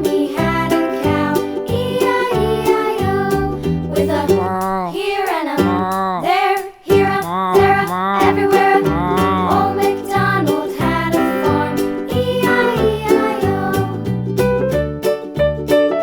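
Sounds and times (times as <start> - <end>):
children's song with bouncy backing: 0.0 - 15.7.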